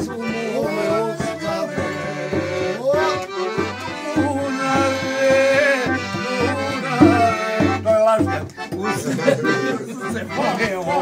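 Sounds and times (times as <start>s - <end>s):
accordion playing folk tune: 0.0s - 11.0s.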